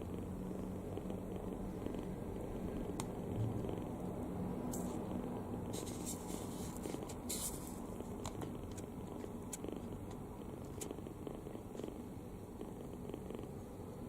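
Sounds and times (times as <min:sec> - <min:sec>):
kitten snoring: 0:00.0 - 0:14.0.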